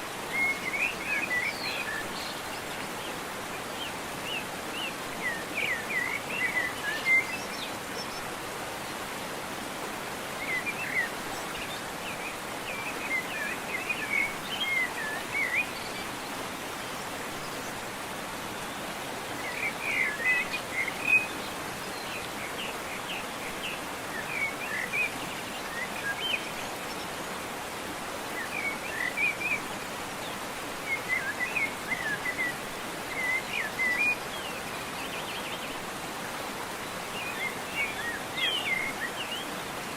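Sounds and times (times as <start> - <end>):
songbird singing: 0.0 - 9.2, 10.1 - 27.4, 28.2 - 39.9
running water: 0.0 - 39.9.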